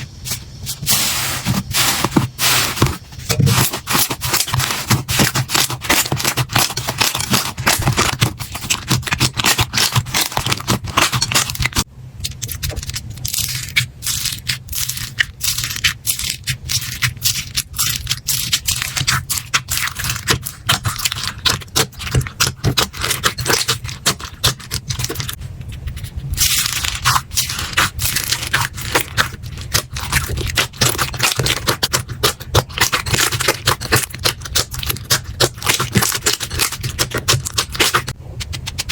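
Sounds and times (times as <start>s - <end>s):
slime crackling and popping: 1.0s - 25.4s, 26.0s - 38.9s.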